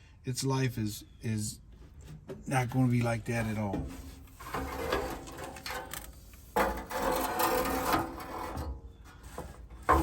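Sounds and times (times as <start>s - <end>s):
rustling and scraping: 1.7s - 10.0s.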